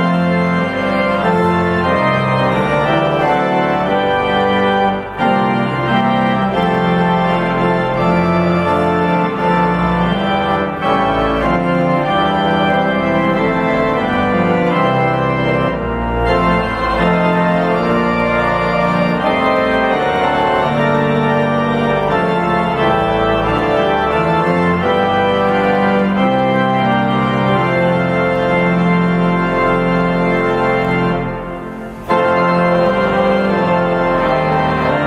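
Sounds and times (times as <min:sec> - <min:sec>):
church organ chords: 0:00.0 - 0:35.0.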